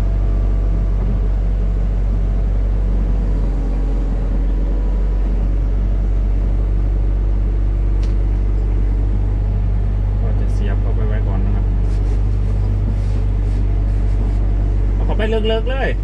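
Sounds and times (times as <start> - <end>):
excavator diesel engine humming: 0.0 - 16.0.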